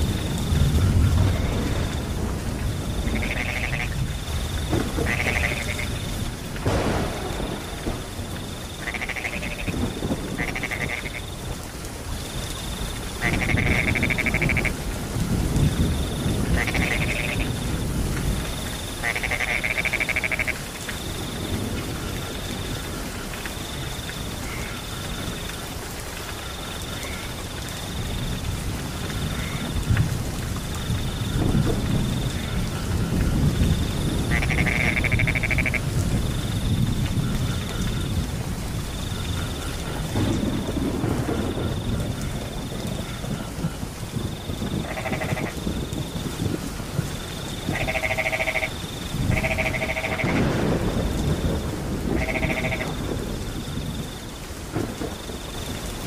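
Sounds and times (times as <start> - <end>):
thunder rolling: 0.0 - 24.4, 28.0 - 56.0
crickets trilling: 0.0 - 56.0
frogs calling: 0.0 - 56.0
rain hissing: 0.0 - 56.0.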